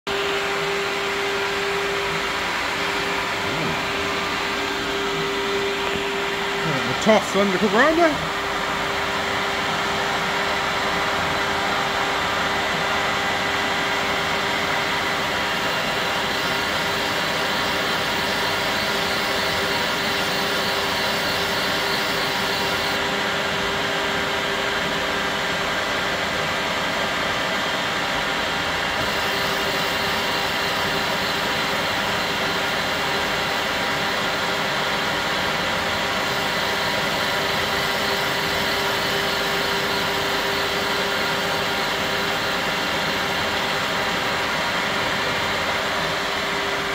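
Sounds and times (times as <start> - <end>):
grinding machine hum: 0.1 - 46.9.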